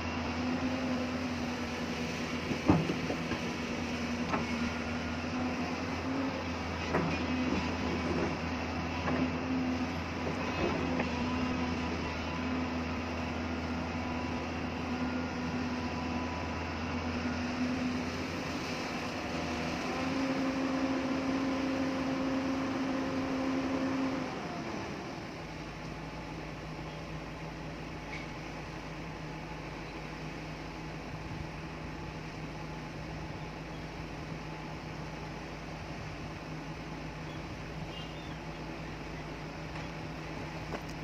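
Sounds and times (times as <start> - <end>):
excavator diesel engine: 0.0 - 41.0
hydraulic whine: 0.0 - 41.0.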